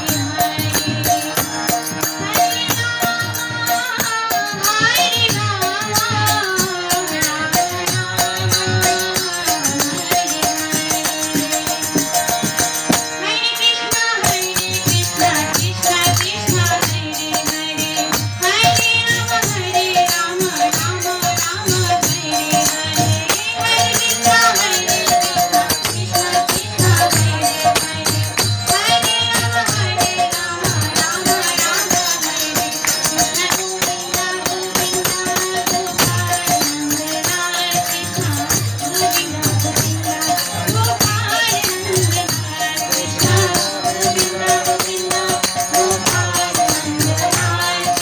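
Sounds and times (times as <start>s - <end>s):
jingling hand percussion: 0.0s - 48.0s
woman singing into a microphone: 0.0s - 48.0s.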